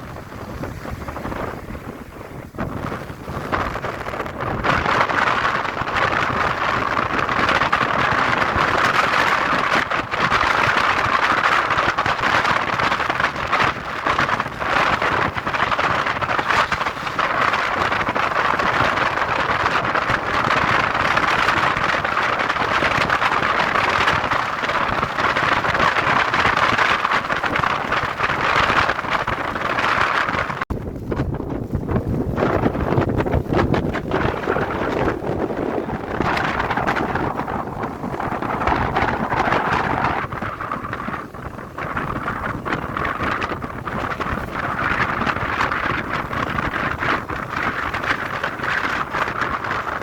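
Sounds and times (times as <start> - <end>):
heavy rain: 0.0 - 50.0
wind: 0.0 - 50.0.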